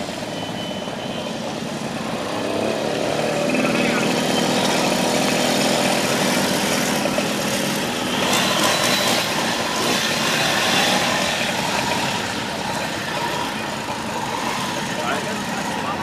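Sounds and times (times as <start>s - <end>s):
moped engine running: 1.6s - 16.0s.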